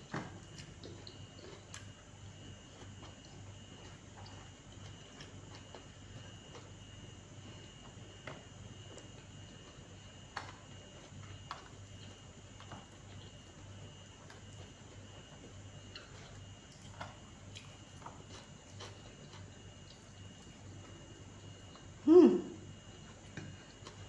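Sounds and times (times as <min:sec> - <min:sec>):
person eating and chewing: 0:00.0 - 0:24.0.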